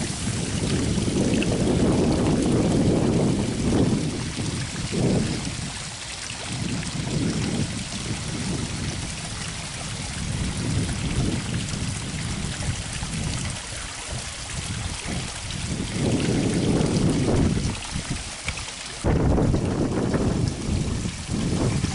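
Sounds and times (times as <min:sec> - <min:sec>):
gusty wind on microphone: 0:00.0 - 0:21.9
steady outdoor hiss: 0:00.0 - 0:21.9.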